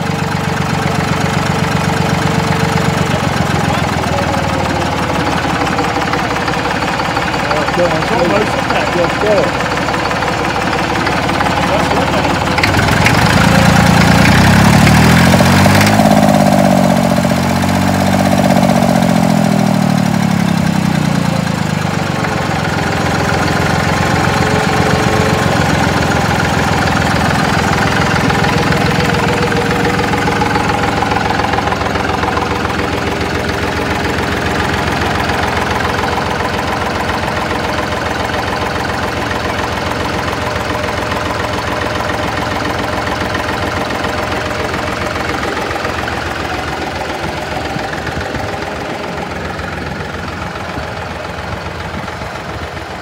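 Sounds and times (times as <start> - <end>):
tractor diesel engine revving and idling: 0.0 - 53.0.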